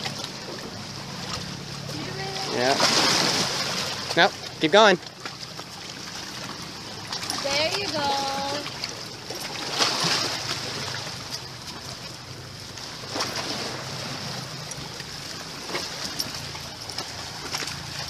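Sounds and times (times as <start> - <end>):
sea water splashing against rocks: 0.0 - 18.0.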